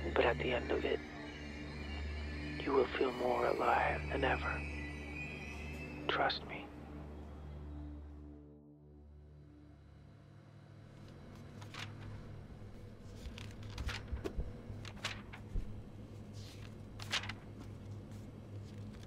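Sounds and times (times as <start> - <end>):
low steady hum: 0.0 - 8.4, 9.0 - 19.0.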